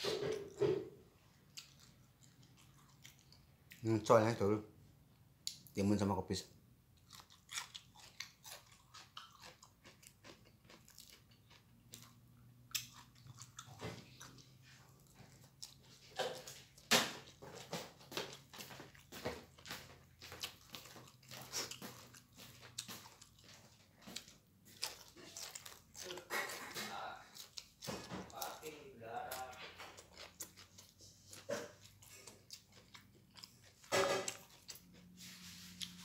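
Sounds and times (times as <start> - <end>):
man chewing and crunching food: 0.0 - 4.3, 5.1 - 5.8, 6.9 - 36.0.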